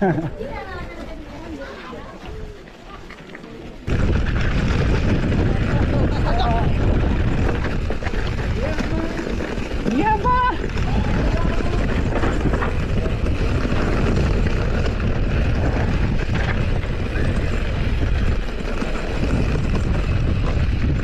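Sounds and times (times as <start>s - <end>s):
bike tyres rumbling on gravel: 2.5s - 21.0s
wind buffeting microphone: 3.8s - 21.0s.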